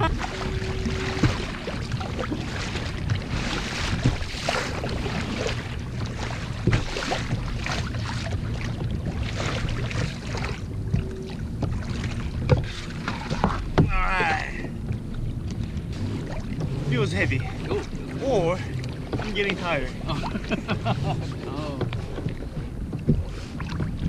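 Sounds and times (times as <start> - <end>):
paddle splashing into water: 0.0 - 15.2, 15.8 - 24.0
water rushing: 0.0 - 24.0
wind: 0.0 - 24.0.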